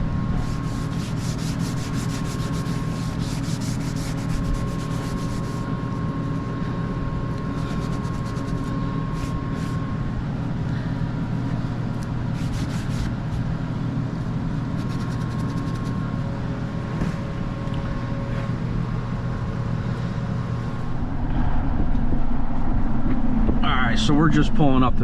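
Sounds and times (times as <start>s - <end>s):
engine and road drone: 0.0s - 25.0s.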